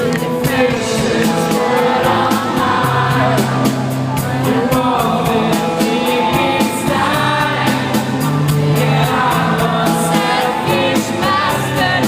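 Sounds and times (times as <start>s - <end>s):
person singing: 0.0s - 12.0s
steady drum beat: 0.0s - 12.0s
sustained band instruments: 0.0s - 12.0s.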